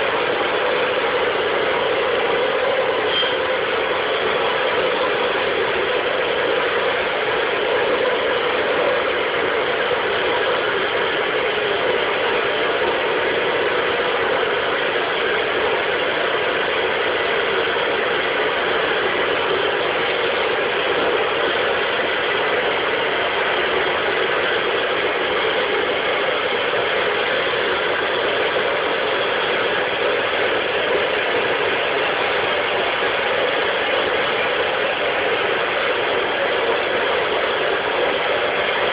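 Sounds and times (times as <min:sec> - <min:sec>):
gas burner roaring: 0:00.0 - 0:38.9.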